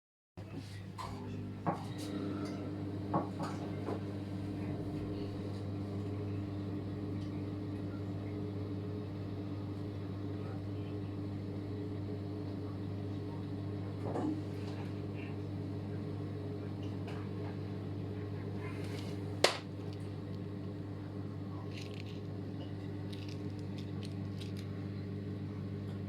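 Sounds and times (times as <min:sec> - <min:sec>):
low mechanical hum: 0:00.4 - 0:26.0.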